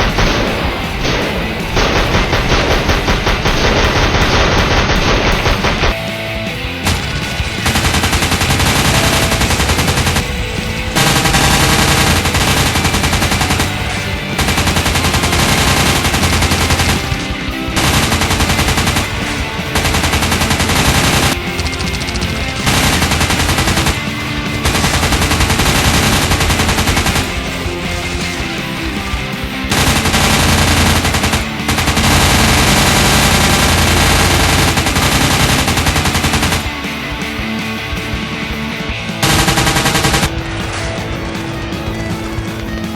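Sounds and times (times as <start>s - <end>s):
machine-gun automatic fire: 0.0s - 6.0s, 6.8s - 36.8s, 39.2s - 40.5s
background music: 0.0s - 42.9s.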